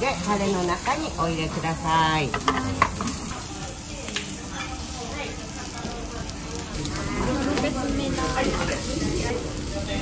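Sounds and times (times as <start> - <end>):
meat and vegetables sizzling: 0.0 - 10.0.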